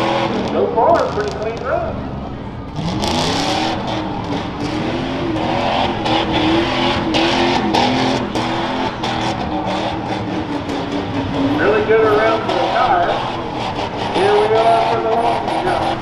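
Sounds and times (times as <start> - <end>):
pickup engine revving hard: 0.0 - 16.0.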